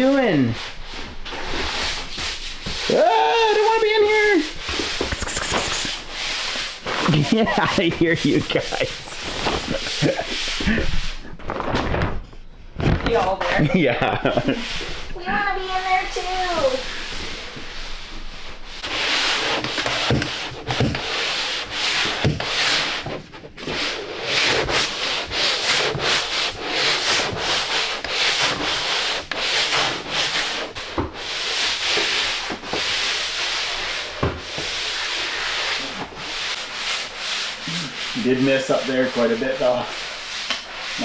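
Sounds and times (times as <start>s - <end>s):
sandpaper rubbing on wall: 0.0s - 11.3s, 13.6s - 41.0s.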